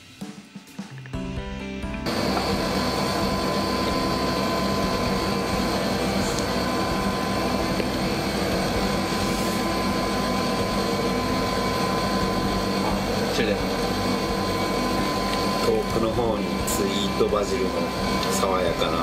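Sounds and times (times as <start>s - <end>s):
motor droning with high whine: 1.8s - 19.0s.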